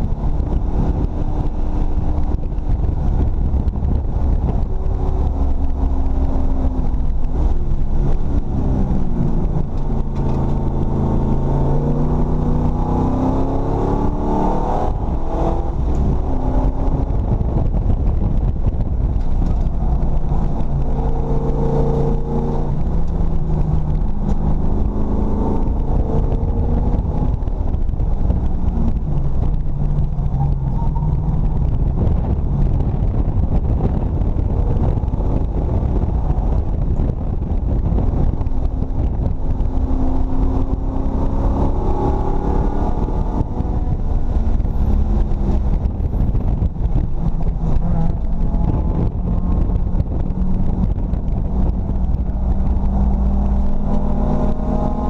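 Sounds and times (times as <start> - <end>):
race car engine revving: 0.0 - 55.0
road and wind noise: 0.0 - 55.0.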